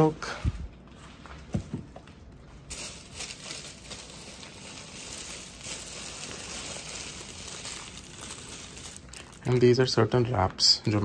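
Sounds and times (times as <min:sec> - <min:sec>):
plastic bag rustling: 0:01.0 - 0:10.0.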